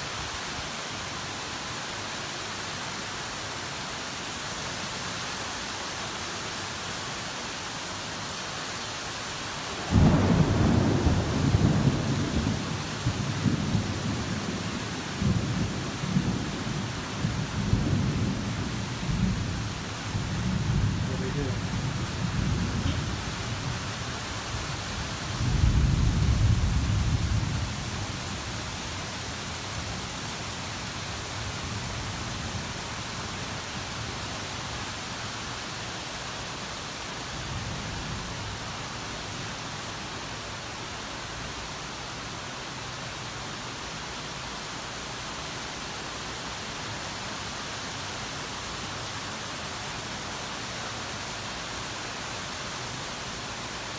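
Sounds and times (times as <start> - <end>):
torrential rain: 0.0 - 53.9.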